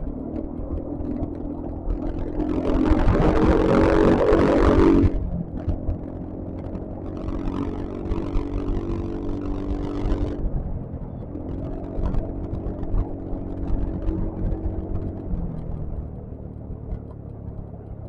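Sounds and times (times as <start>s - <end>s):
scooter engine cruising: 0.0s - 18.0s
wind rumble on microphone: 0.0s - 18.0s.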